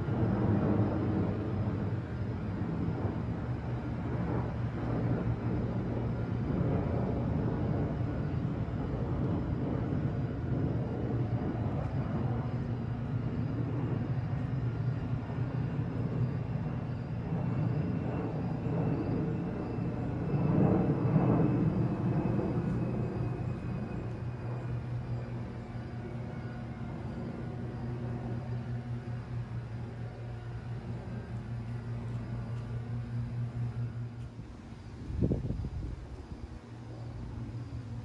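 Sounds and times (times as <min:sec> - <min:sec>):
faint high jet whine: 0:00.0 - 0:38.0
jet engines rumbling: 0:00.0 - 0:38.0.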